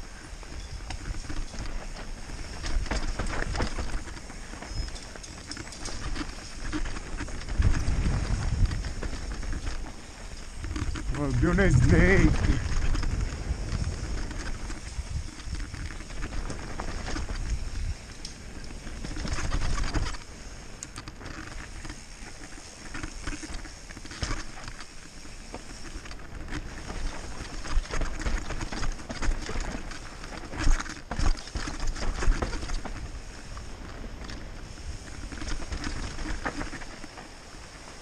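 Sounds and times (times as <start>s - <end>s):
bike knocking and rattling: 0.0s - 38.0s
bike tyres crunching on gravel: 0.0s - 38.0s.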